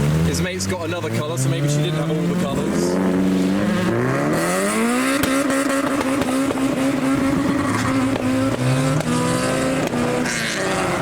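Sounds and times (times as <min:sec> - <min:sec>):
car engine revving high: 0:00.0 - 0:11.0.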